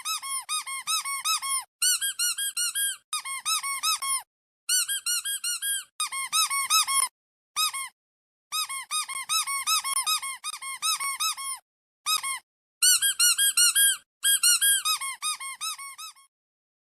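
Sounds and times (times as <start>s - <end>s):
rubber squeaky toy squeaking: 0.0s - 16.3s.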